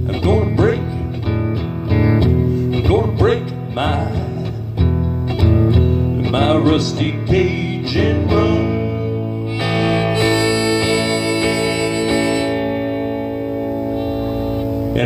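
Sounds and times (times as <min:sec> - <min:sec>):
acoustic guitar strummed hard: 0:00.0 - 0:15.0.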